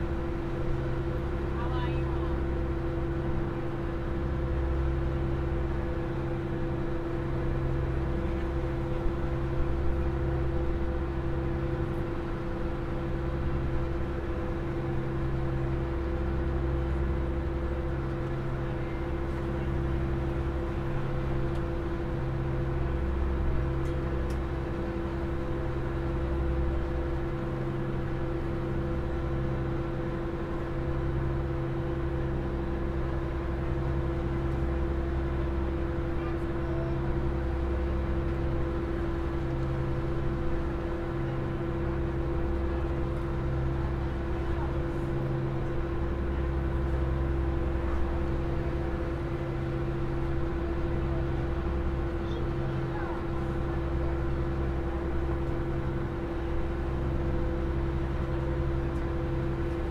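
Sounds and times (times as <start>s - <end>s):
ferry diesel engines droning: 0.0s - 59.9s.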